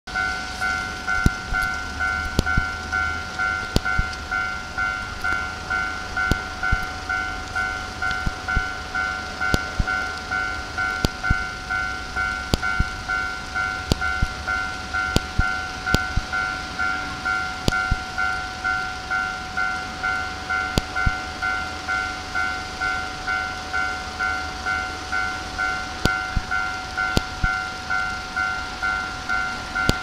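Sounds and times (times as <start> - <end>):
level crossing warning bell: 0.1 - 30.0.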